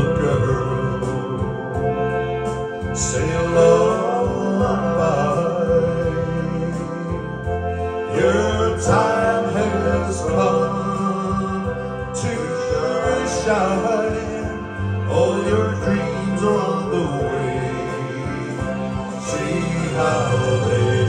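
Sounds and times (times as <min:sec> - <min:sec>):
backing music with bass line: 0:00.0 - 0:21.0
man singing into microphone: 0:00.0 - 0:21.0.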